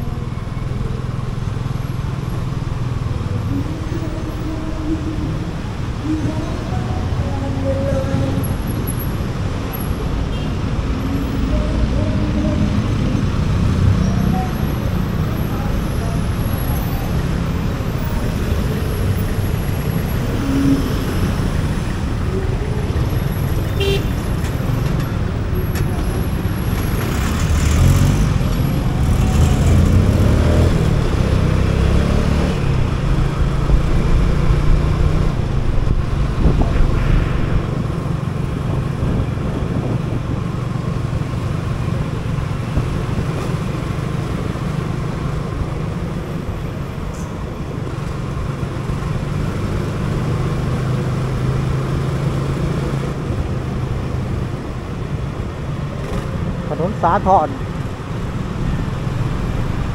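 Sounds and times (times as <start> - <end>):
rumble of traffic: 0.0 - 59.9.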